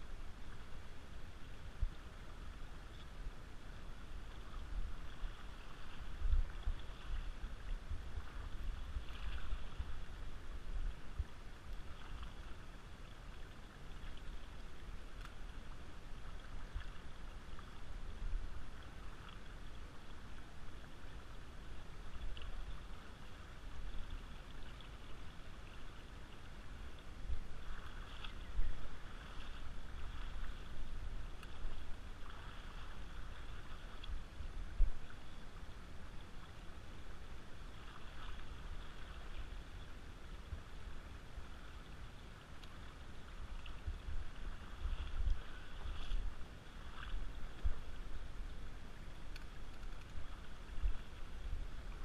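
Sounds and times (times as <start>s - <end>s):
river water flowing and sloshing: 0.0s - 52.0s
wind rumble on microphone: 0.0s - 52.0s.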